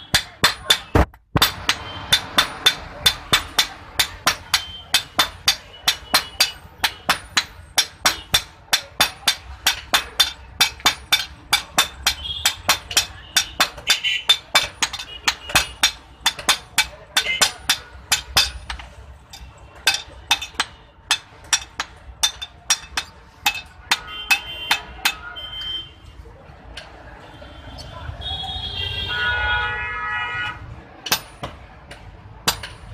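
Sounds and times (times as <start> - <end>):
hammer striking iron on anvil: 0.0 - 25.3, 31.0 - 32.9.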